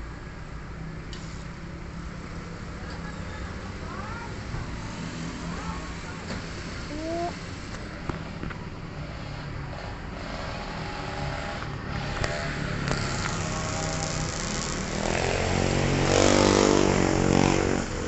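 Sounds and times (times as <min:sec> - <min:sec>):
vehicle engine passing close: 0:01.4 - 0:18.0.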